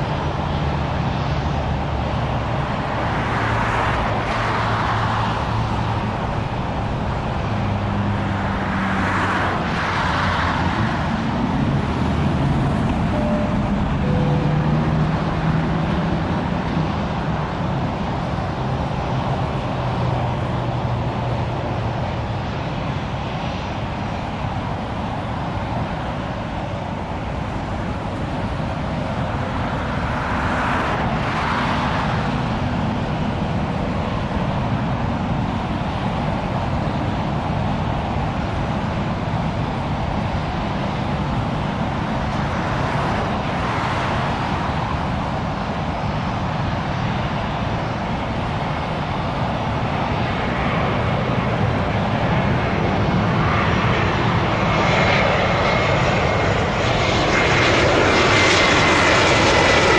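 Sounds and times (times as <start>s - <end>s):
distant jet airliner rumble: 0.0s - 59.9s
road traffic passing: 0.0s - 59.9s.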